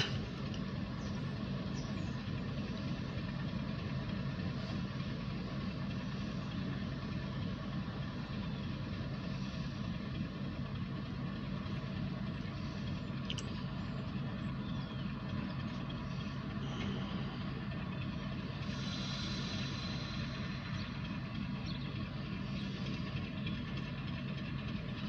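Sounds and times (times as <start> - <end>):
diesel locomotive engines idling: 0.0 - 25.0.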